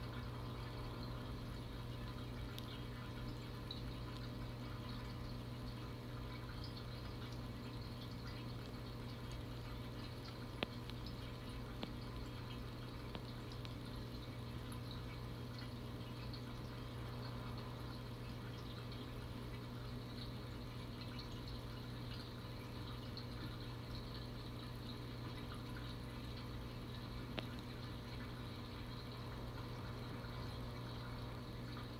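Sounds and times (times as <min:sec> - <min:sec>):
aquarium pump hum: 0:00.0 - 0:31.9
faint ticks: 0:00.0 - 0:31.9
water trickling and dripping: 0:00.0 - 0:31.9.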